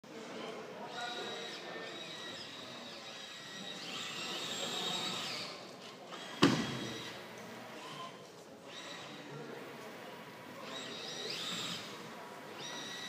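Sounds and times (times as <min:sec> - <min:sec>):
robot drive motors whining: 0:01.0 - 0:13.0.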